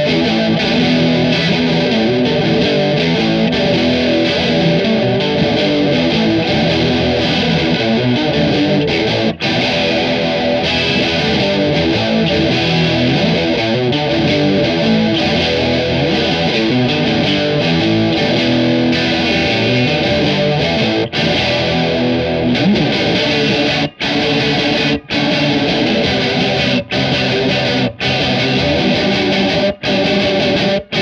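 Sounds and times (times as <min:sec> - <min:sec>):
distorted electric guitar riff: 0:00.0 - 0:31.0.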